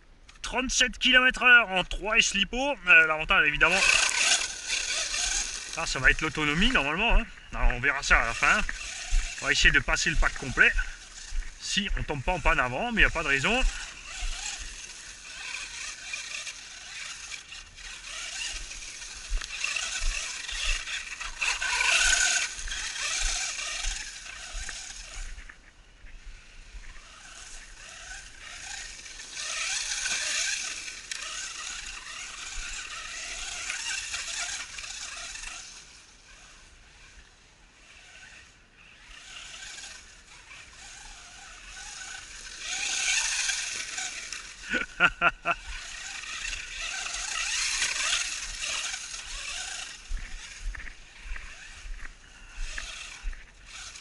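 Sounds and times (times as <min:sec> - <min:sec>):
rc car electric motor whining: 0:00.2 - 0:54.0.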